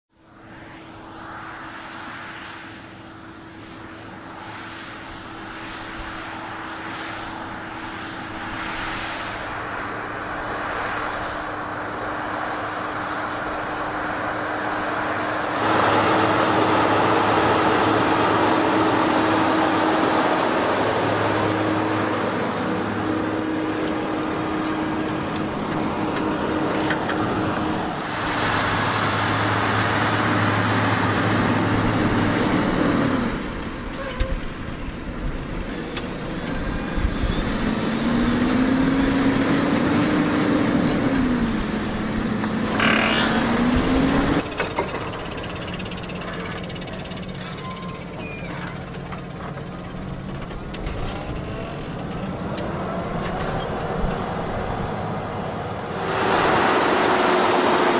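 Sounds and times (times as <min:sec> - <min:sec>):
tractor engine under heavy load: 0:02.2 - 0:57.9.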